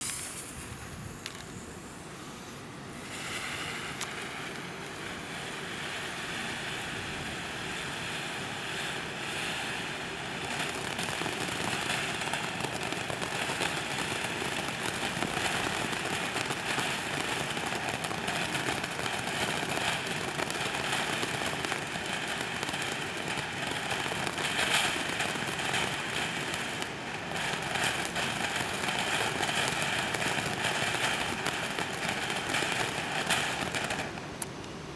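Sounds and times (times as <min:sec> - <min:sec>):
firework fountain hissing and crackling: 0:00.0 - 0:34.9.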